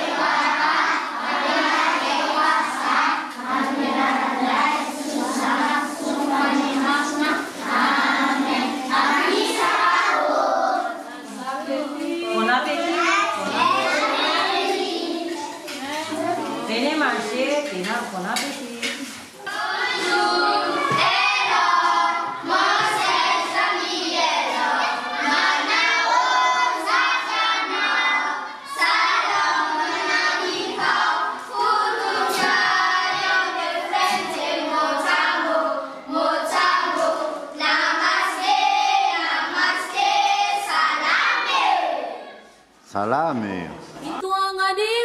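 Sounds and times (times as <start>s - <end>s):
children singing together: 0.0s - 16.8s, 19.0s - 42.7s.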